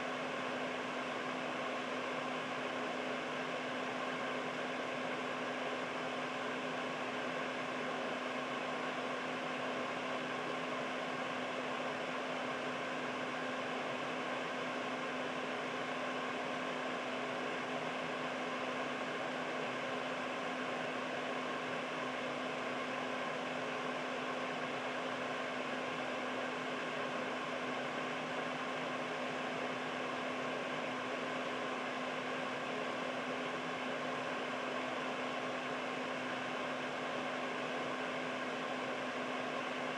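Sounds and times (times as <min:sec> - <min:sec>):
air purifier fan rush: 0:00.0 - 0:39.9.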